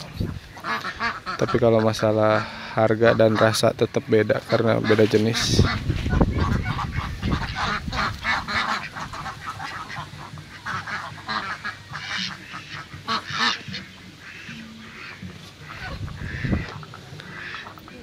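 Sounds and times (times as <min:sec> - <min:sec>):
flock of ducks calling: 0:00.0 - 0:18.0.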